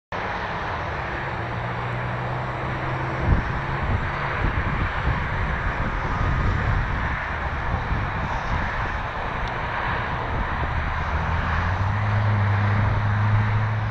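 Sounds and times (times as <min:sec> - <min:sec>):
jet engines humming: 0:00.2 - 0:13.9
wind gusts on microphone: 0:00.2 - 0:13.9.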